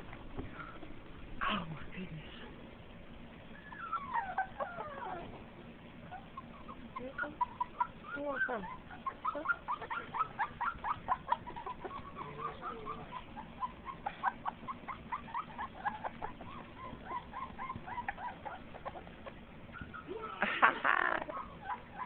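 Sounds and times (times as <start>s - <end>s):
puppies whimpering and squealing: 3.5s - 22.0s.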